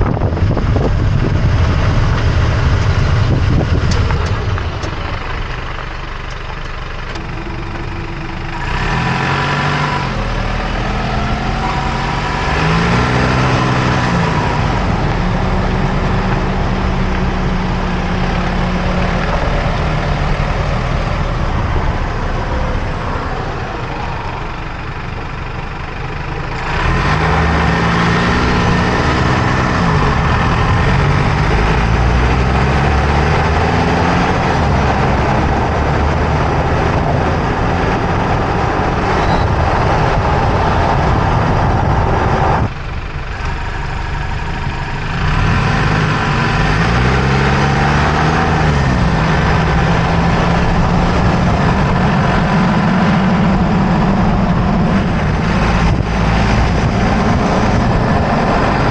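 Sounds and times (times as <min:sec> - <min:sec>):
road noise: 0:00.0 - 0:58.9
truck engine accelerating: 0:00.0 - 0:58.9.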